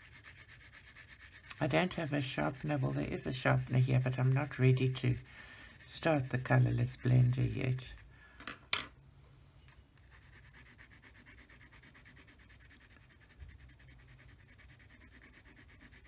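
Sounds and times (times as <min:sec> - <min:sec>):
pencil scratching on paper: 0:00.0 - 0:08.0, 0:10.0 - 0:16.0.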